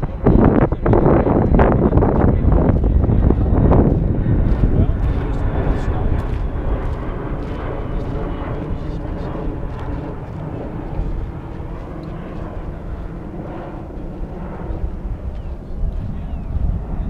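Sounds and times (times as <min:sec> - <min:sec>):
aircraft engine drone overhead: 0:00.0 - 0:17.0
wind rumble on microphone: 0:00.0 - 0:17.0.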